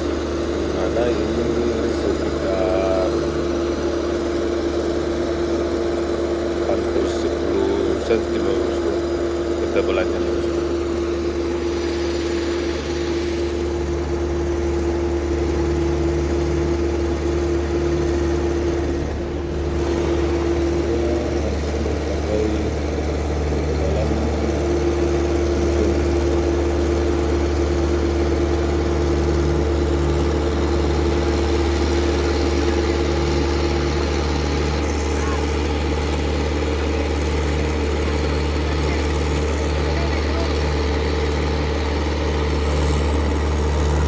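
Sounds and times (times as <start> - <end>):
heavy machinery engine running: 0.0 - 44.0.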